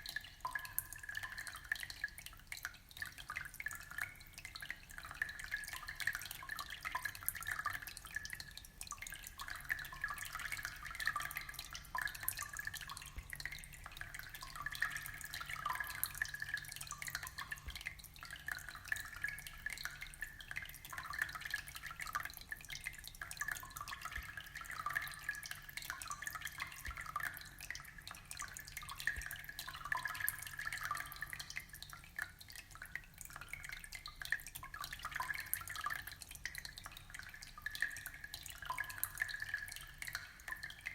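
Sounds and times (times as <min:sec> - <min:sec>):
aquarium water trickling: 0:00.0 - 0:40.9.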